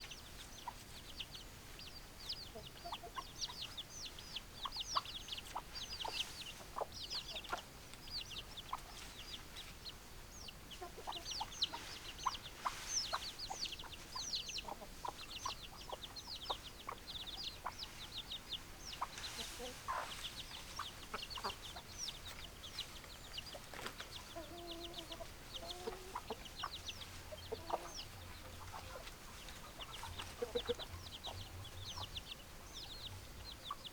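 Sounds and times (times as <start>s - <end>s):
chicken clucks: 0.0s - 33.9s
chickens chirping: 0.0s - 33.9s.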